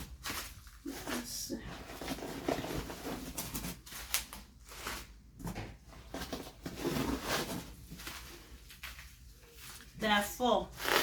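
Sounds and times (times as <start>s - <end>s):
packaging rustling and scraping: 0.0s - 10.2s.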